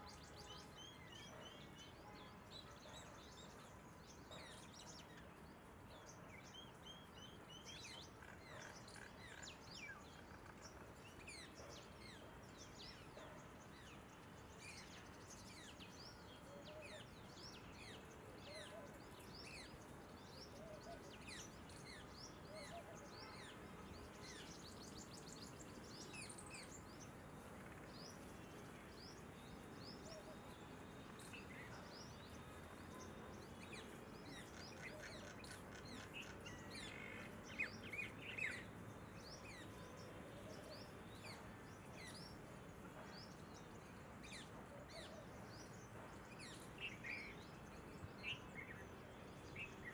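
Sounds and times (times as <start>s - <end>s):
small birds chirping: 0.0s - 49.9s
steady background hiss: 4.7s - 49.9s.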